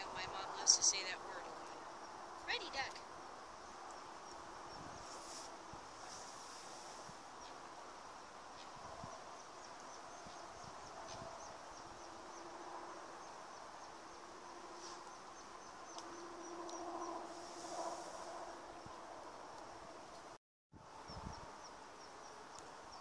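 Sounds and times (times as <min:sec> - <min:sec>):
faint outdoor background noise: 0:00.0 - 0:23.0
insect chirping: 0:00.4 - 0:19.9.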